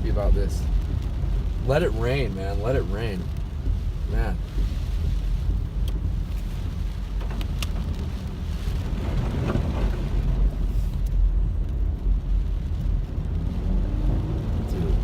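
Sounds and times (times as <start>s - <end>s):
engine and tyre rumble: 0.0s - 15.0s
hiss of wet road and rain: 0.0s - 15.0s.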